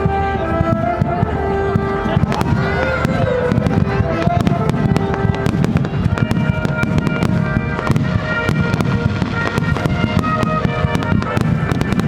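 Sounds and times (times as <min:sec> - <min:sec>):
fireworks bangs and crackles: 0:00.0 - 0:12.0
music playing: 0:00.0 - 0:12.0.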